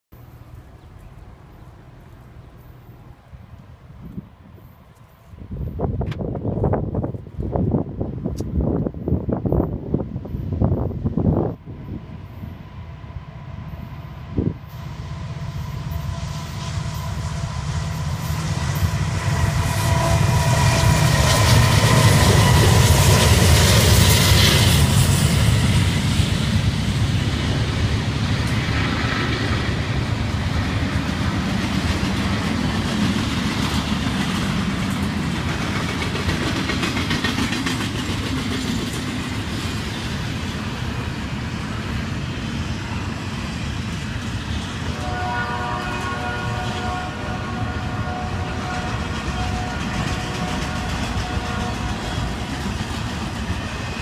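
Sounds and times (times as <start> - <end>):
diesel locomotive rumble: 0.2 - 54.0
train wheels on rails: 0.2 - 54.0.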